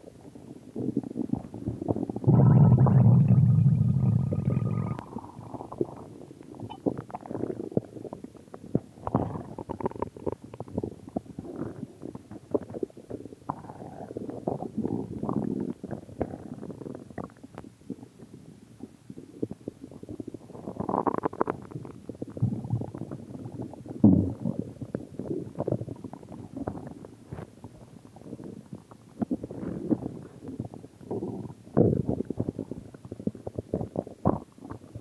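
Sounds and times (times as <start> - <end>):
stomach growling: 0.1 - 35.0.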